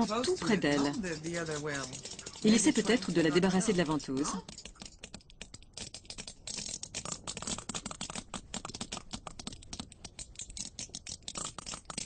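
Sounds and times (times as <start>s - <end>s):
sperm whale clicks: 0.0s - 12.0s.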